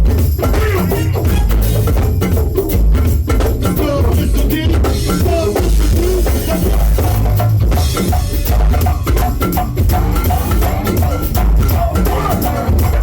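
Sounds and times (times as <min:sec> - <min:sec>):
deep bass: 0:00.0 - 0:13.0
drum kit and percussion groove: 0:00.0 - 0:13.0.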